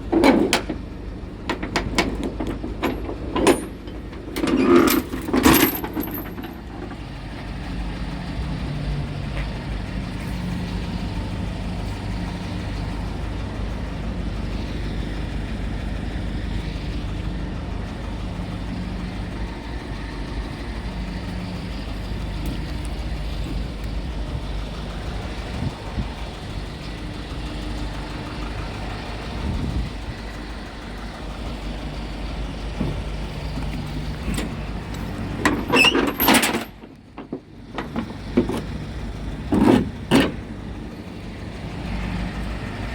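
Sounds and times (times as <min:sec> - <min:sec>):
truck diesel engine idling: 0:00.0 - 0:42.9.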